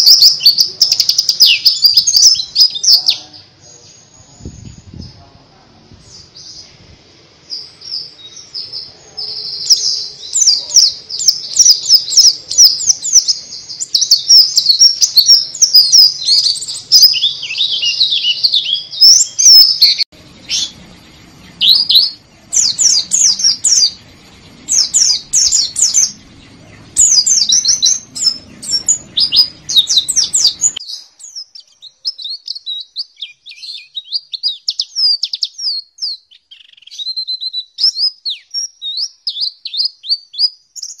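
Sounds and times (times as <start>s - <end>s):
bird twittering song: 0.0s - 5.3s, 7.4s - 41.0s.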